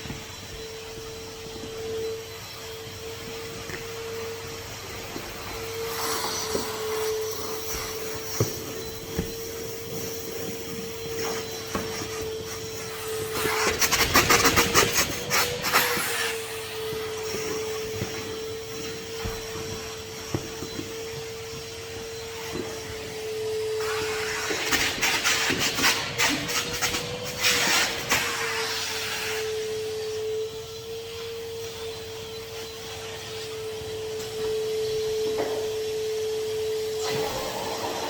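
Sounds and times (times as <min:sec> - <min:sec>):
vacuum cleaner motor whine: 0:00.0 - 0:38.0.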